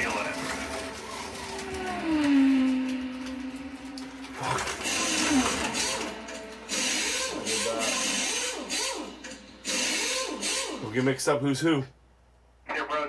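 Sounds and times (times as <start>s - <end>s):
slot car motors whining: 0.0s - 11.1s.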